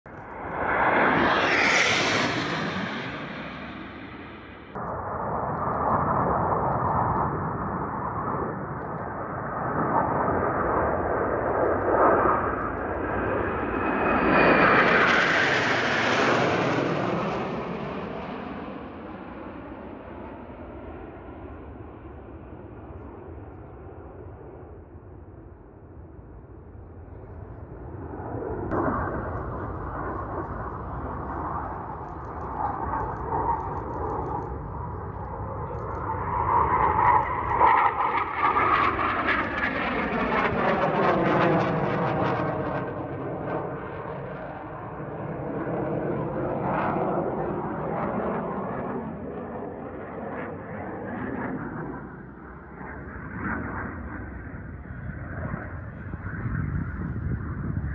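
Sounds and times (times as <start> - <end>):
jet engines roaring: 0.1 - 57.9.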